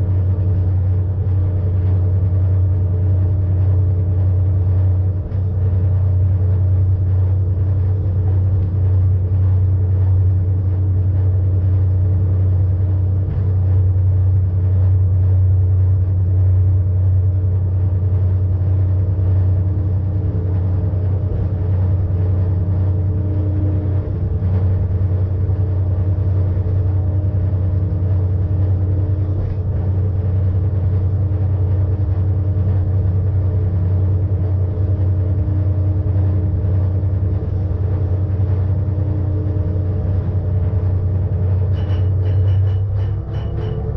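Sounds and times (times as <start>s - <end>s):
electric drive hum: 0.0s - 43.9s
railcar rumbling along track: 0.0s - 43.9s.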